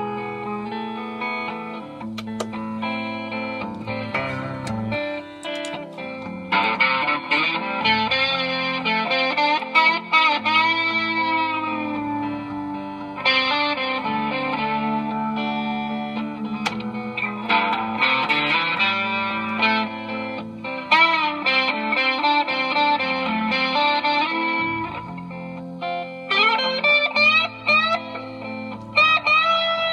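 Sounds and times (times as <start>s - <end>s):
electric guitar single-note lines: 0.0s - 29.9s.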